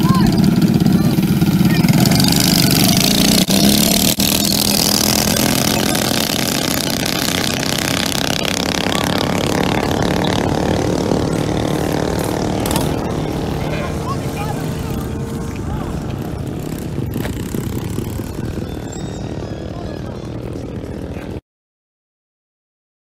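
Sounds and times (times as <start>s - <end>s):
small bike engines revving: 0.0s - 21.4s.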